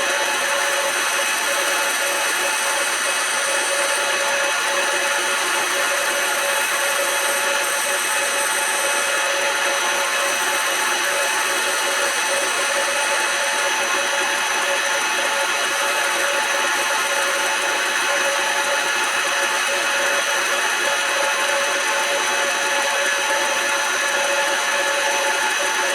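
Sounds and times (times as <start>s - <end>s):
lathe machine whine: 0.0s - 25.9s.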